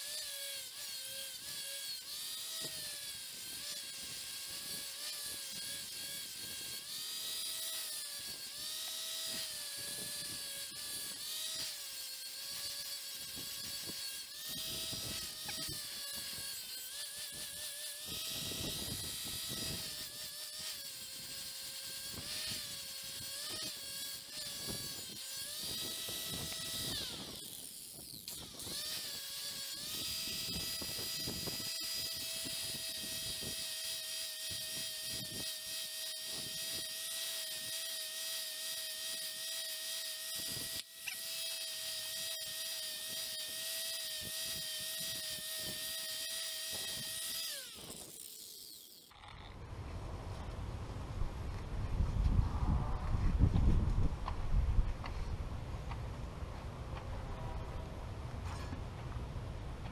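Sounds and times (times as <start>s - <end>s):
disc grinding steel: 0.0s - 49.6s
angle grinder motor whine: 0.0s - 50.6s.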